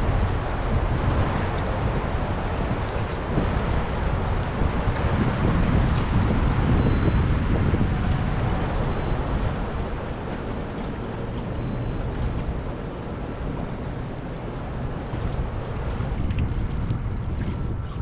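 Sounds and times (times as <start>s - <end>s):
turbulent water rushing: 0.0s - 18.0s
wind buffeting microphone: 0.0s - 18.0s.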